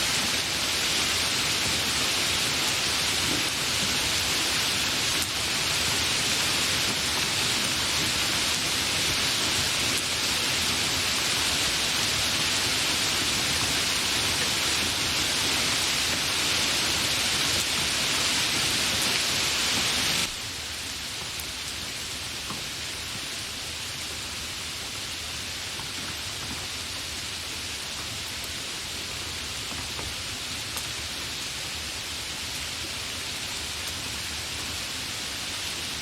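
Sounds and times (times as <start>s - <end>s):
heavy rain: 0.0s - 36.0s.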